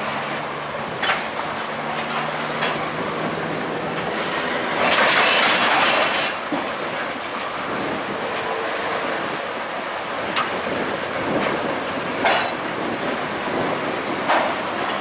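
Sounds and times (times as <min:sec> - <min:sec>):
train wheels through water: 0:00.0 - 0:15.0
wheels clacking on rails: 0:00.0 - 0:15.0.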